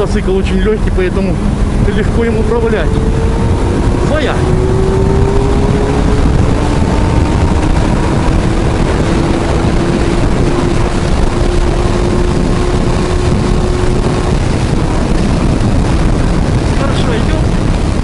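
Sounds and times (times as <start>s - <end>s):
motorcycle engine accelerating: 0.0s - 18.0s
wind rush on microphone: 0.0s - 18.0s.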